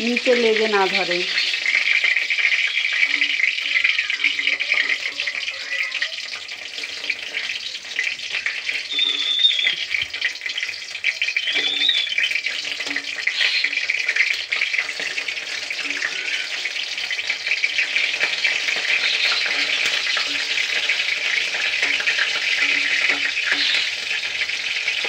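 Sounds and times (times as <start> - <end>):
fritters sizzling in oil: 0.0 - 25.0.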